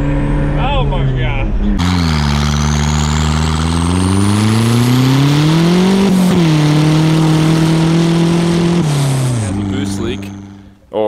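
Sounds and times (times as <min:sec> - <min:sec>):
pickup engine revving: 0:01.6 - 0:10.8.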